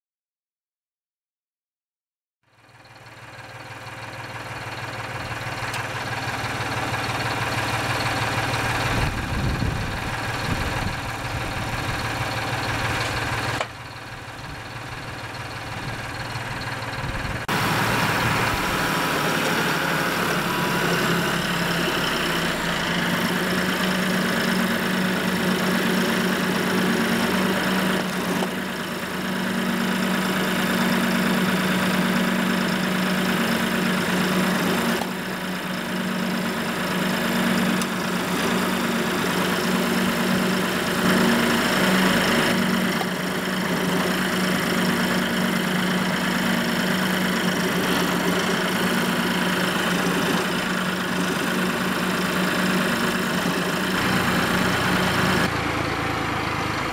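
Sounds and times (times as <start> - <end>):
tractor diesel engine running: 2.4 - 56.9.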